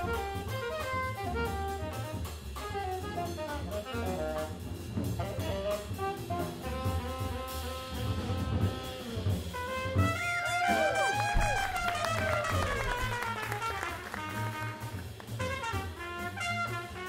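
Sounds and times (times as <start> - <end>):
bass line: 0.0 - 17.0
drum kit with cymbals: 0.0 - 17.0
saxophone and brass melody: 0.0 - 17.0.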